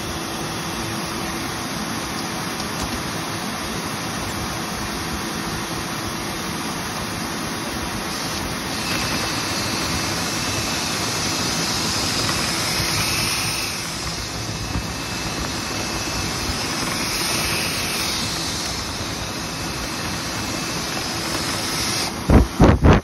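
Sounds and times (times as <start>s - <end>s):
air rushing through vent duct: 0.0s - 23.0s.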